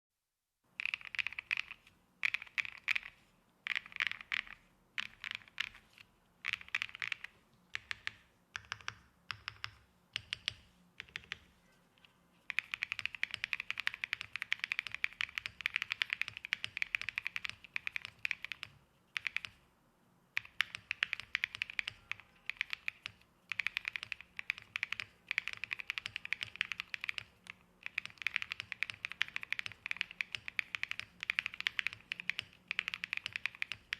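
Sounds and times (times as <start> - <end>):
mechanical keyboard typing: 0.8 - 11.5, 12.5 - 19.6, 20.4 - 33.9.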